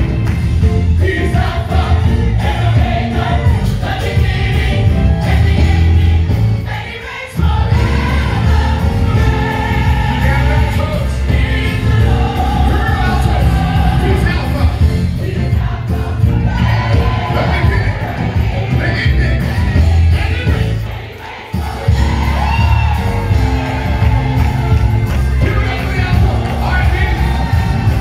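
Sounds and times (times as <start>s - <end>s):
gospel choir singing: 0.0s - 28.0s
live band playing: 0.0s - 28.0s.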